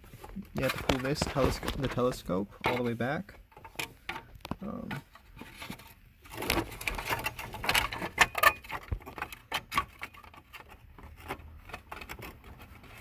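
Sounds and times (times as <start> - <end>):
plastic trim clicking and scraping: 0.2 - 13.0.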